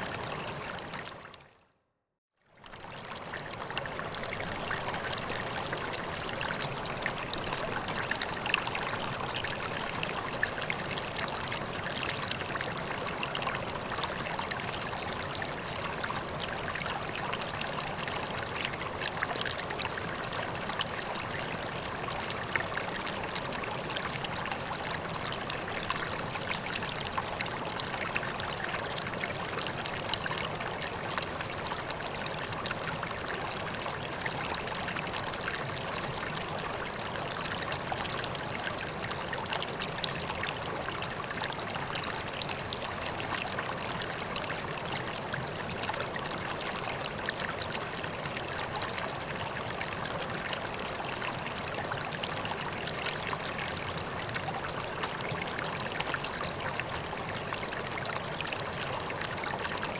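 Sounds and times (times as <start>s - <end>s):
water trickling into a pond: 0.0s - 1.6s, 2.4s - 59.9s.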